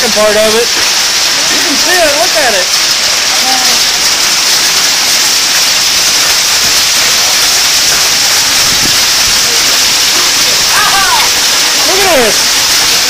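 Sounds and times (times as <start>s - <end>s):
hail and rain on pavement and vehicles: 0.0s - 13.0s.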